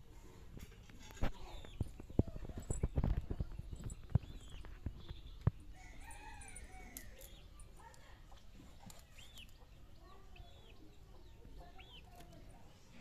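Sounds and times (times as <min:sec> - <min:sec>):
low bird clucking calls: 0:00.6 - 0:13.0
faint bird chirps: 0:01.2 - 0:13.0.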